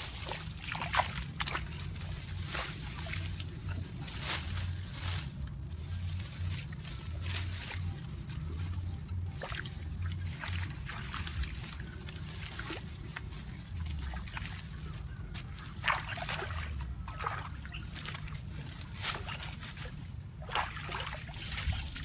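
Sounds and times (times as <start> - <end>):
low rumble: 0.0 - 22.0
water sloshing and splashing: 0.0 - 22.0.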